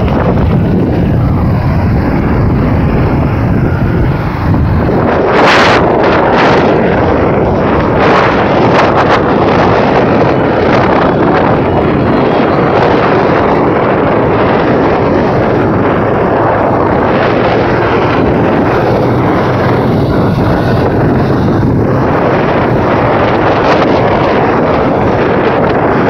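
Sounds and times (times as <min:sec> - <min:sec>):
road traffic rumble: 0:00.0 - 0:26.0
wind buffeting microphone: 0:00.0 - 0:26.0.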